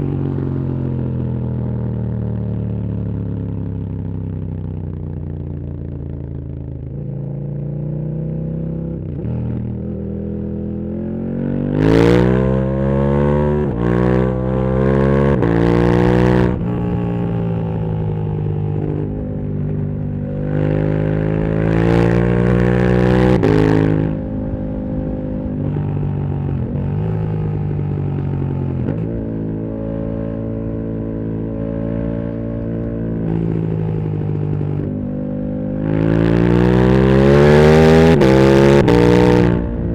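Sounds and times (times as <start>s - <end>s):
motorcycle engine accelerating and shifting: 0.0s - 39.9s.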